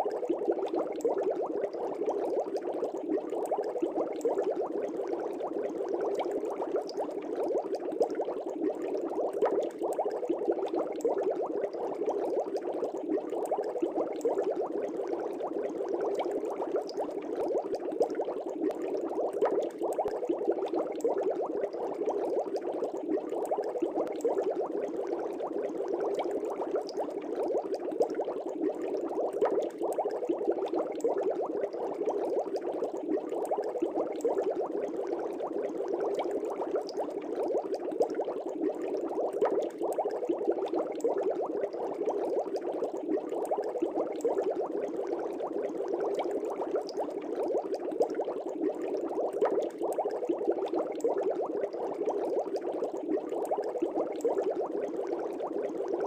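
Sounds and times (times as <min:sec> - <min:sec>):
air bubbles in fish tank: 0:00.0 - 0:56.0.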